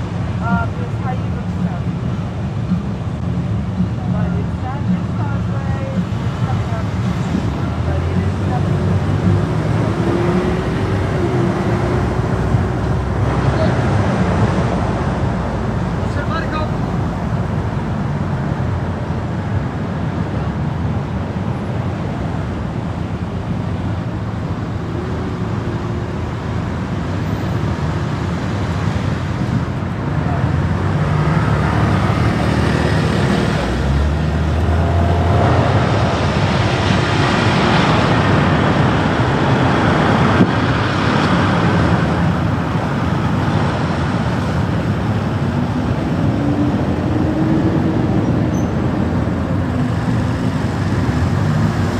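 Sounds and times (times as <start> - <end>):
road and traffic noise: 0.0 - 51.9.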